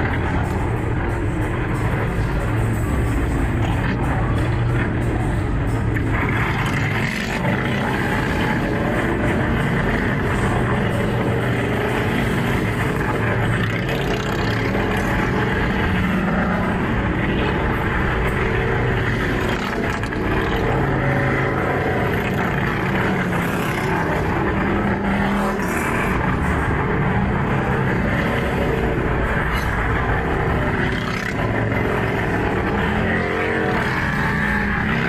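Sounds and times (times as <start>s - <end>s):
vehicle engines revving: 0.0s - 35.0s.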